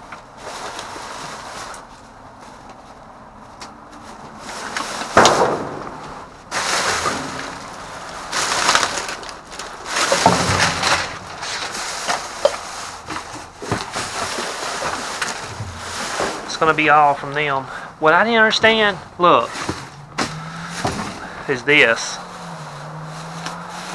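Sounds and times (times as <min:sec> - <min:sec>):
plastic bags and cardboard rustling: 0:00.0 - 0:23.9.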